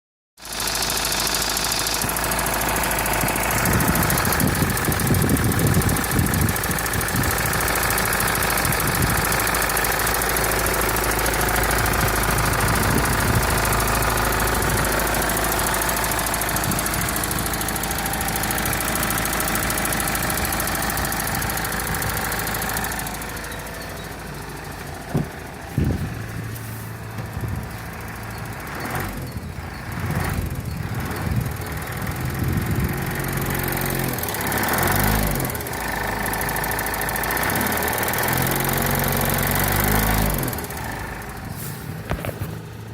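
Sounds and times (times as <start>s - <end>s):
diesel engine knocking: 0.4s - 42.9s.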